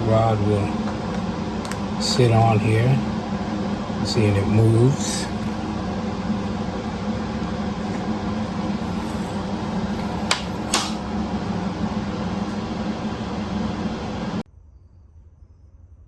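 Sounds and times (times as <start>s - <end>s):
fan humming: 0.0s - 14.4s.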